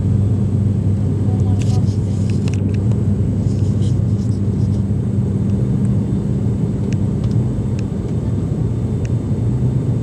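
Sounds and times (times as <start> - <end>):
airliner engines droning in cabin: 0.0 - 10.0.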